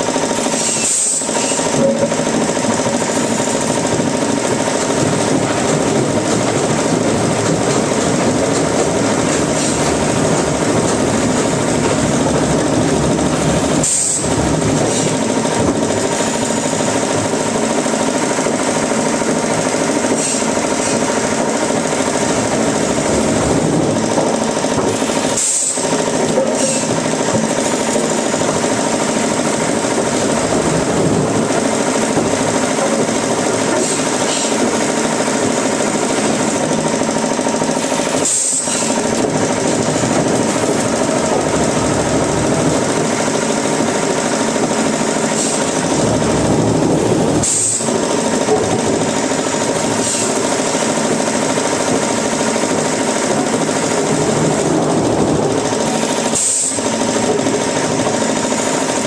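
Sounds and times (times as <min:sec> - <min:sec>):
wood-processing machinery running: 0:00.0 - 0:59.0.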